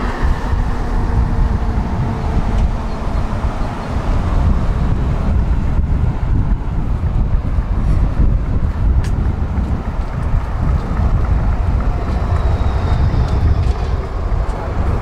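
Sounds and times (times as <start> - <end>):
tram rumbling along track: 0.0 - 15.0.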